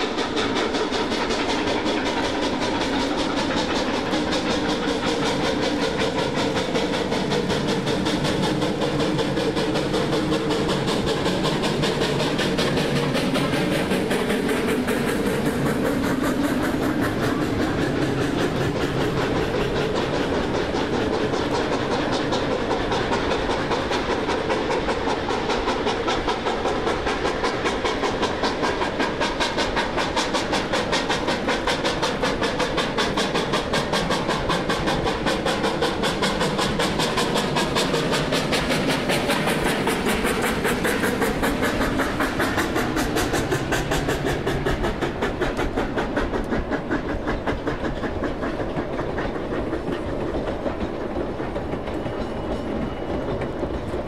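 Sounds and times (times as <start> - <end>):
steam train running: 0.0 - 54.0.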